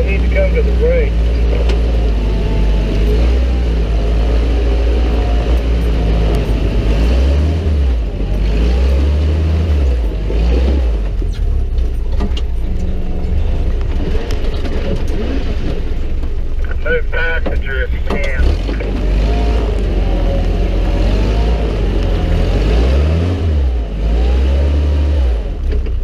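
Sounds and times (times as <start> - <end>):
jeep engine running slowly: 0.0 - 26.0.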